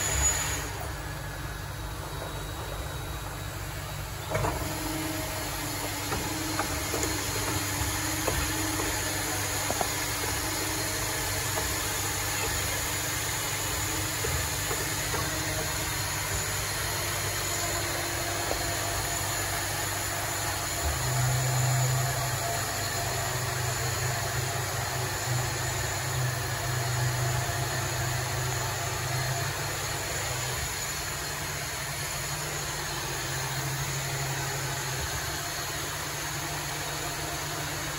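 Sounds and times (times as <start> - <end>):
machinery humming: 0.0 - 37.9.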